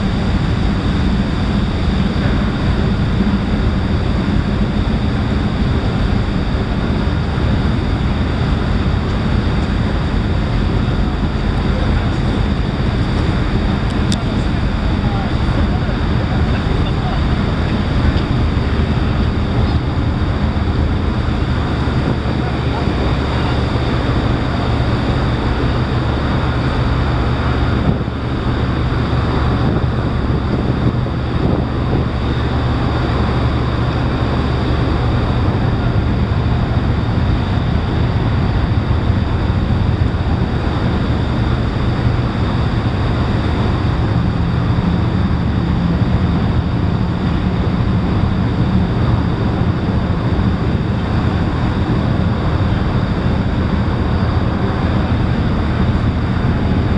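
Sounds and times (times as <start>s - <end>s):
ferry diesel engines droning: 0.0s - 56.9s
higher engine tone: 0.0s - 56.9s
wind noise on microphone: 0.0s - 56.9s.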